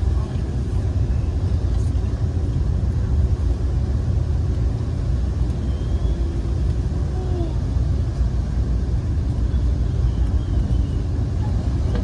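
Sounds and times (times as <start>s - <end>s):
rail car rumbling on track: 0.0s - 12.0s.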